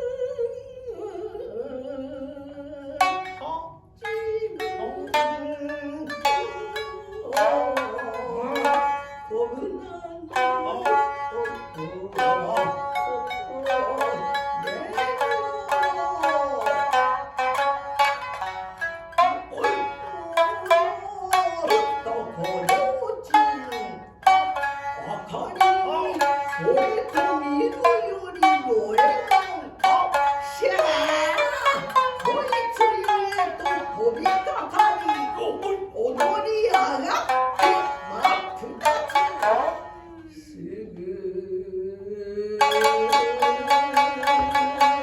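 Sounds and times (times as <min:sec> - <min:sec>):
person chanting: 0:00.0 - 0:18.5, 0:19.2 - 0:45.0
shamisen plucking: 0:00.0 - 0:40.4, 0:42.5 - 0:45.0.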